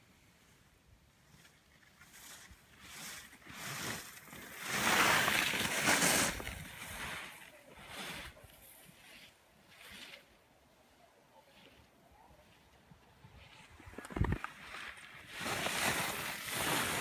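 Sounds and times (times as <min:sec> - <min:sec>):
skis swishing on packed snow: 0:01.2 - 0:17.0.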